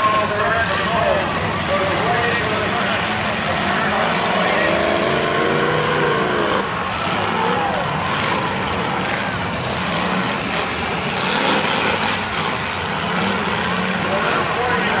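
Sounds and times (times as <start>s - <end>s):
car engines revving: 0.0s - 15.0s
loud steady din: 0.0s - 15.0s.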